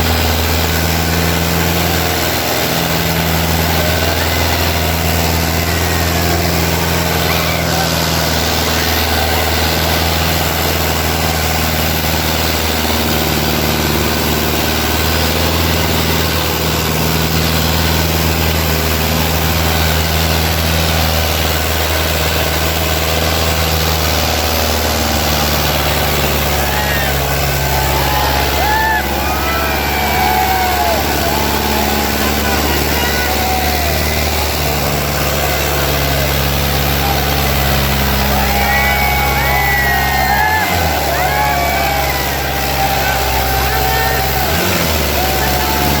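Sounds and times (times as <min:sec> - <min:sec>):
tractor diesel engine running: 0:00.0 - 0:46.0
voices calling out: 0:00.0 - 0:46.0.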